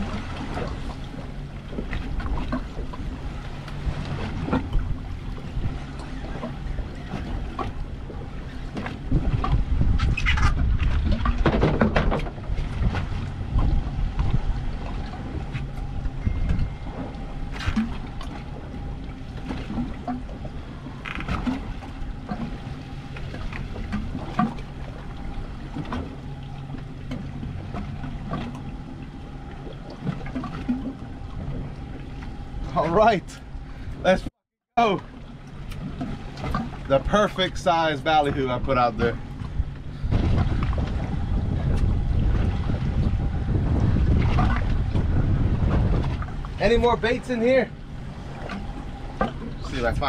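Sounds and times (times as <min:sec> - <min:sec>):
water rushing: 0:00.0 - 0:50.0
wind: 0:00.0 - 0:50.0.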